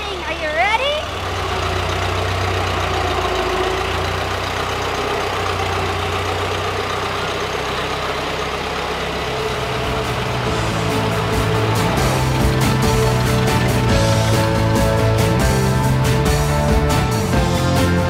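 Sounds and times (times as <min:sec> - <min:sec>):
old truck engine running: 0:00.0 - 0:18.0.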